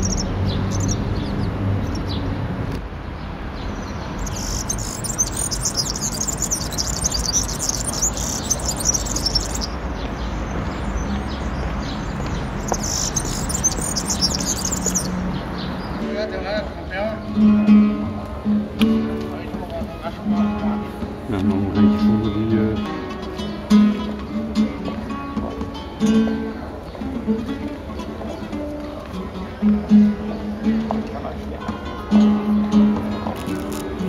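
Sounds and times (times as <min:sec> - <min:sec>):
songbird chirping: 0:00.0 - 0:31.6.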